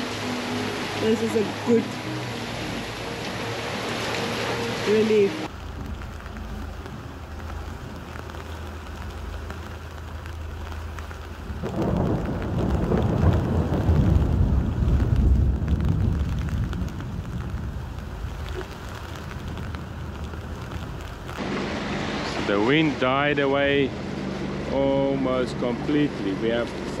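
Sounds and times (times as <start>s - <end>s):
heavy low rumble: 0.0s - 27.0s
heavy rain on deck and windows: 0.0s - 27.0s.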